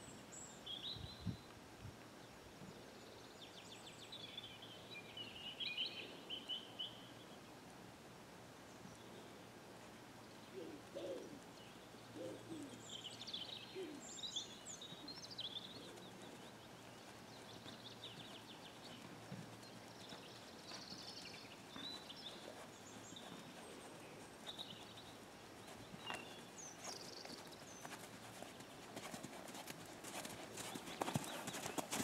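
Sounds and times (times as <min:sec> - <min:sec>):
faint low outdoor hum: 0:00.0 - 0:32.0
wild birds chirping and singing: 0:02.2 - 0:07.4, 0:10.2 - 0:32.0.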